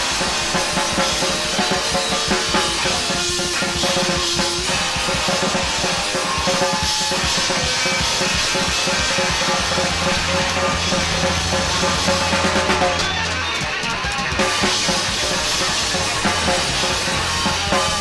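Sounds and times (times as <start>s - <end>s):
bass drum and snare hits: 0.0s - 18.0s
rock band playing live: 0.0s - 18.0s
sustained guitar notes: 0.0s - 18.0s.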